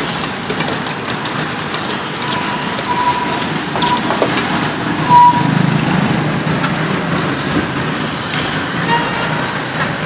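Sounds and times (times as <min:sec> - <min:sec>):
low street traffic rumble: 0:00.0 - 0:10.0.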